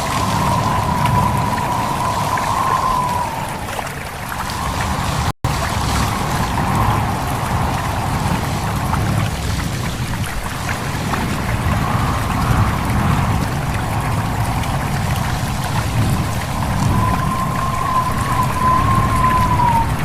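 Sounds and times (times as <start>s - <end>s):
high whistling tone: 0.0s - 8.9s, 11.7s - 20.0s
stream babbling over stones: 0.0s - 17.6s
water splashes: 0.0s - 20.0s
wind rumble: 0.0s - 20.0s.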